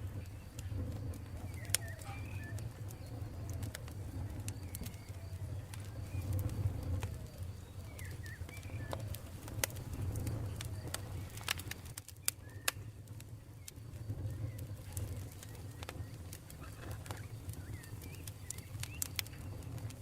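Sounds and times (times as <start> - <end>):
campfire low rumble: 0.0 - 20.0
fire crackling and popping: 0.0 - 20.0.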